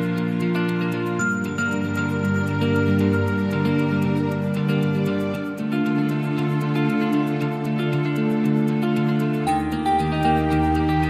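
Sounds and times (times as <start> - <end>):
music with long held notes: 0.0 - 11.0.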